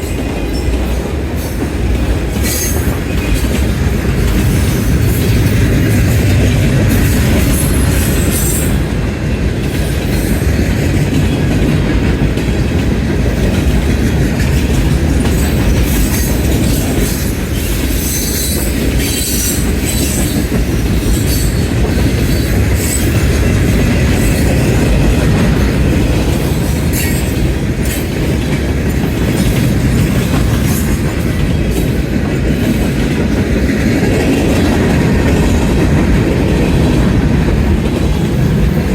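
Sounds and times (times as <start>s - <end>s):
freight train rail rumble: 0.0s - 38.9s.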